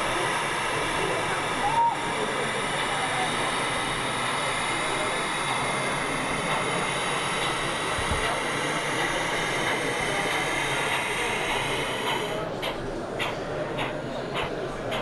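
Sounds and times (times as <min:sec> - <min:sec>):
distant voices: 0:00.0 - 0:15.0.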